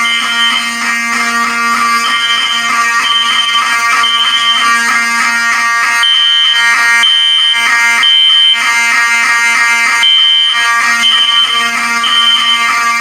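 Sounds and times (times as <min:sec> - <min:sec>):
fire alarm horns blaring: 0:00.0 - 0:13.0
pulsing alarm horn blasts: 0:00.0 - 0:13.0.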